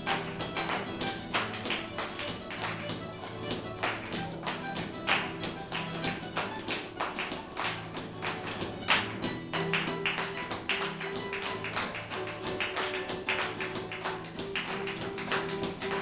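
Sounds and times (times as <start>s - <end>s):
flamenco guitars playing: 0.0s - 16.0s.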